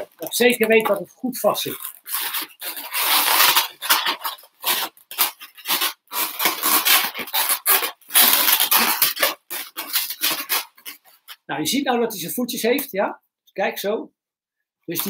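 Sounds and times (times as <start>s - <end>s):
balloons squeaking and rubbing: 0.0s - 12.7s.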